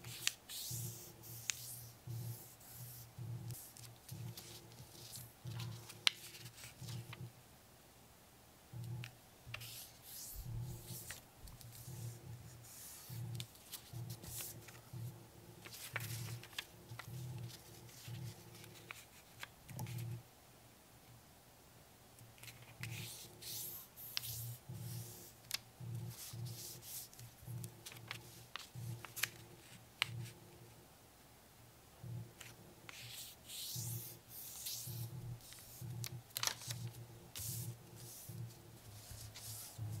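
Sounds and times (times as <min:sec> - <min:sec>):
paper being folded by hand: 0:00.0 - 0:07.2, 0:09.5 - 0:20.2, 0:22.4 - 0:30.4, 0:32.4 - 0:40.0.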